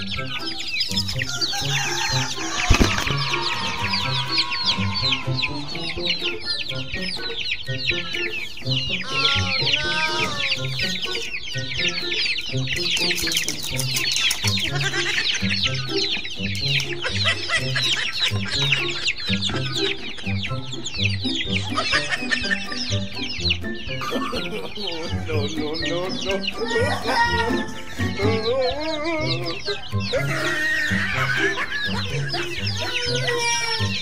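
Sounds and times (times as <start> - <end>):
background music with low notes: 0.0 - 34.0
chicks peeping: 0.0 - 34.0.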